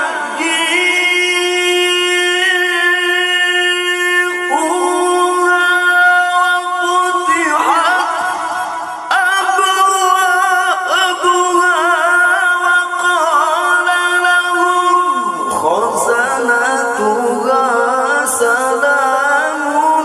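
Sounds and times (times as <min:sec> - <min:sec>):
man chanting through microphone: 0:00.0 - 0:20.0.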